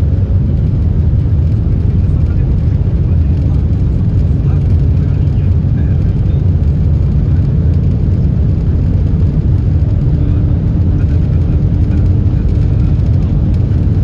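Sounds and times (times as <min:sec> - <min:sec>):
train cabin low rumble: 0:00.0 - 0:14.0.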